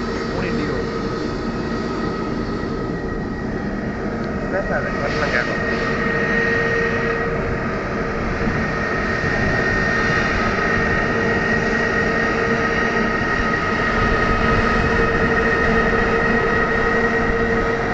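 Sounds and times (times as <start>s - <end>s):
airliner engines running: 0.0s - 17.9s.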